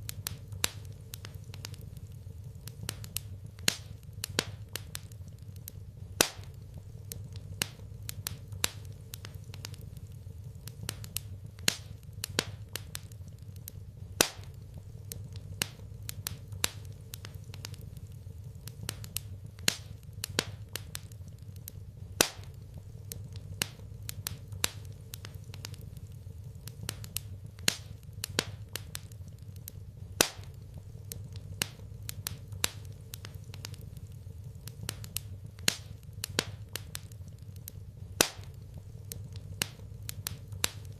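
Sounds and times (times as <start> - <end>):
steady low hum: 0.0 - 40.9
wood fire crackling: 0.0 - 40.9.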